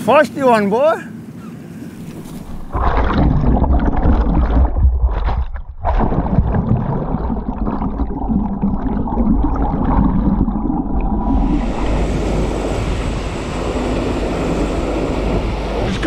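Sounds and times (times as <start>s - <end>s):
low boat rumble: 1.8s - 16.0s
muffled underwater water gurgling: 2.0s - 16.0s.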